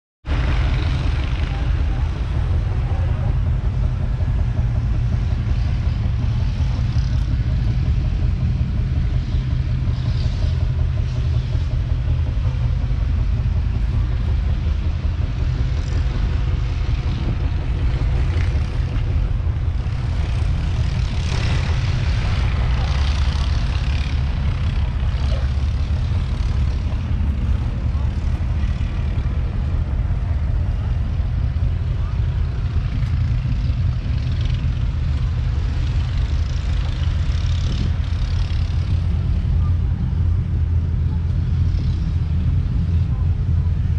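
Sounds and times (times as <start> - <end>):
diesel engine idling: 0.2 - 43.9.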